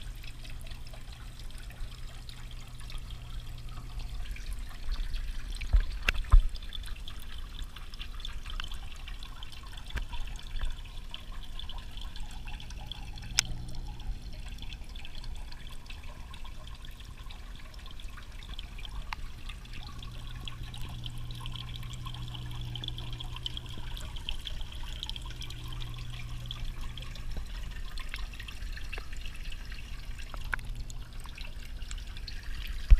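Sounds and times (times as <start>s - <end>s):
low steady hum: 0.0s - 32.9s
water trickling underwater: 0.0s - 32.9s.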